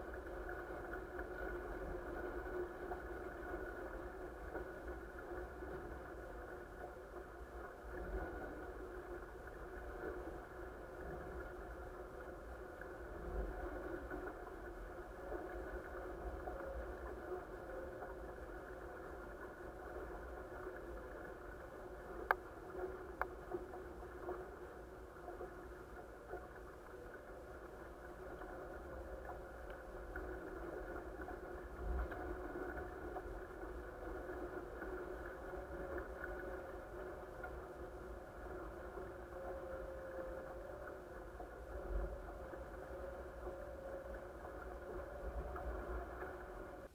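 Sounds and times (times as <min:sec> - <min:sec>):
water rushing along hull: 0:00.0 - 0:46.9.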